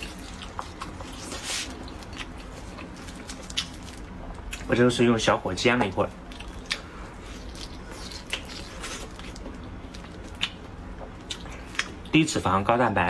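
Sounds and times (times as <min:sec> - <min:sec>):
person chewing: 0:00.0 - 0:04.7, 0:06.2 - 0:12.1
faint steady background noise: 0:00.0 - 0:13.0.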